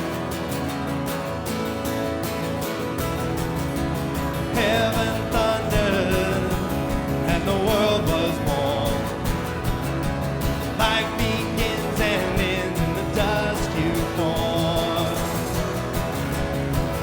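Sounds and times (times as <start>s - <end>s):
bass: 0.0s - 17.0s
worship band playing: 3.1s - 17.0s
steady drum beat: 3.2s - 17.0s.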